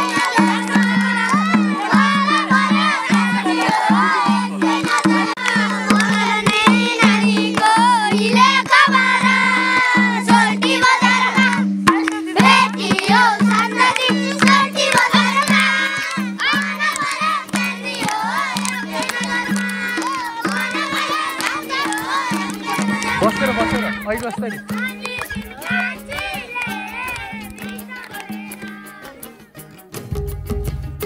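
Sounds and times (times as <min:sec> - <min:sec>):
children singing a folk song: 0:00.0 - 0:29.7
hand drum beating: 0:00.0 - 0:31.0.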